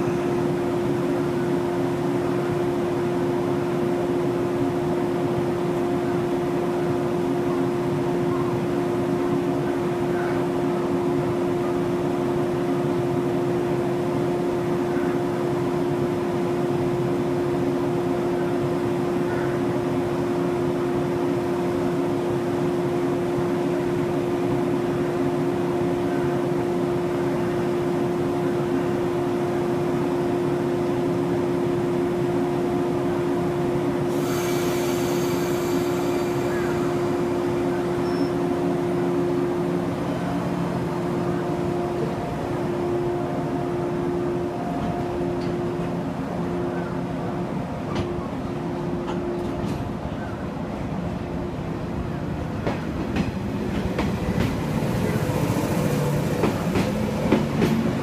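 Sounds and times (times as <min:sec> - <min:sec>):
electric train equipment humming: 0:00.0 - 0:58.0
train moving off: 0:00.0 - 0:58.0.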